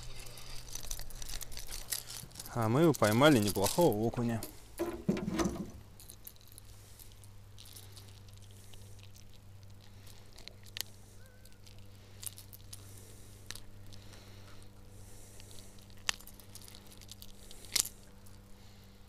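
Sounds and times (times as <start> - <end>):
rustling: 0.0 - 19.0
steady low hum: 0.0 - 19.0.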